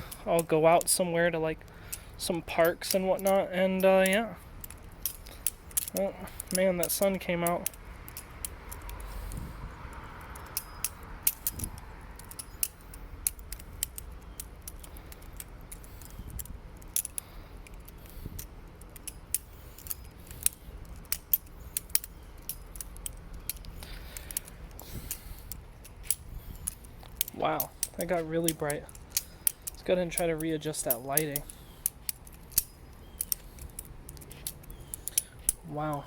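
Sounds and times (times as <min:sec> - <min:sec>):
metallic clicks of butterfly knife: 0:01.6 - 0:36.0.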